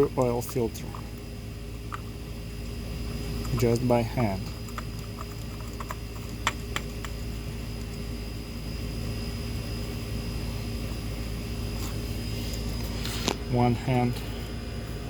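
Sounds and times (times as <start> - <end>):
steady fan-like hum: 0.0 - 15.0.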